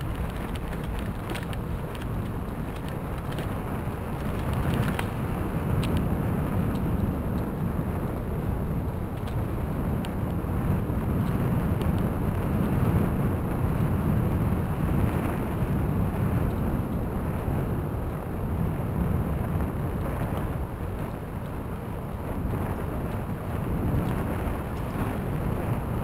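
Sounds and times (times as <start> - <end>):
bicycle tyres rolling on gravel: 0.0 - 26.0
wind buffeting microphone: 0.0 - 26.0.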